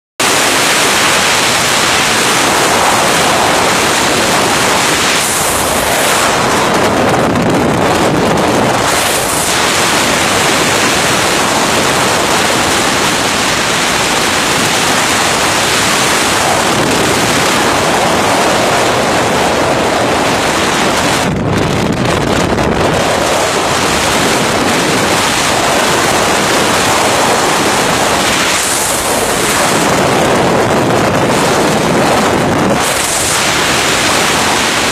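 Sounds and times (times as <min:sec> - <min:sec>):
strong wind buffeting microphone: 0:00.2 - 0:34.9.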